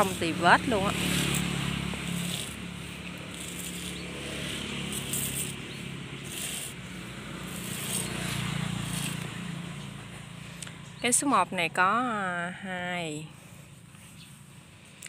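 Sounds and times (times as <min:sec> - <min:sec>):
low motor hum: 0:00.0 - 0:12.3
faint outdoor background noise: 0:00.0 - 0:15.0.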